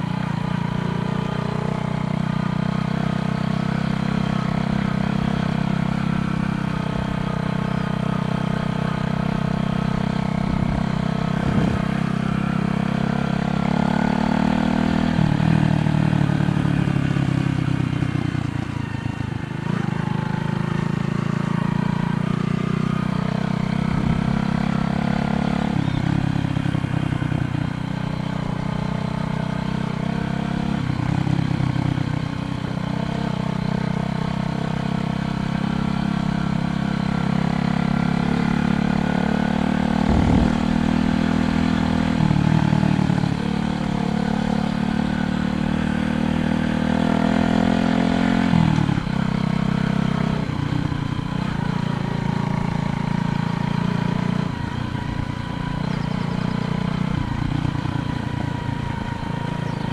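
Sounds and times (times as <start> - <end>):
bicycle riding rumble on road: 0.0 - 59.9.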